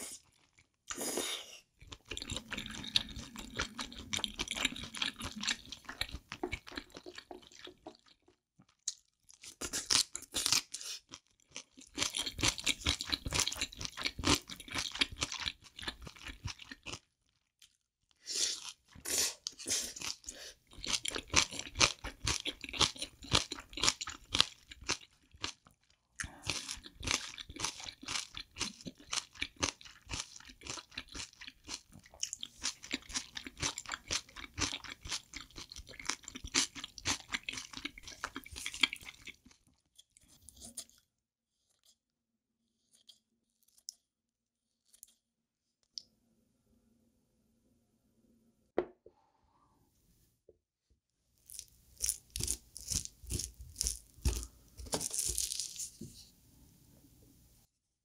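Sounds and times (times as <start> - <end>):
close chewing and crunching: 0.0 - 44.1, 44.7 - 46.0, 51.4 - 56.0.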